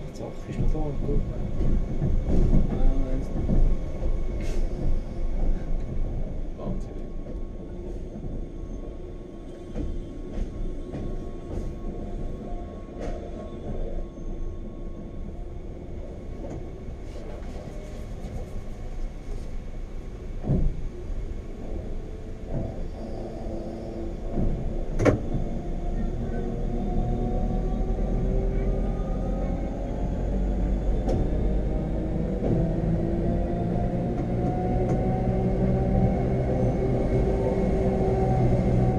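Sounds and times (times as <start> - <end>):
rack railway train rumbling: 0.0 - 38.9.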